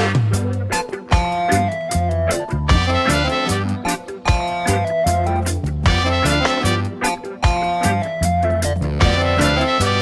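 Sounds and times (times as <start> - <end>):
upbeat swing instrumental: 0.0 - 10.0.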